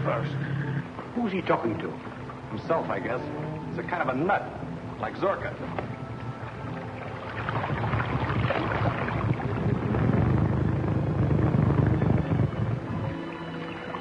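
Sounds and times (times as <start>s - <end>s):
motorboat engine rumbling: 0.0s - 14.0s.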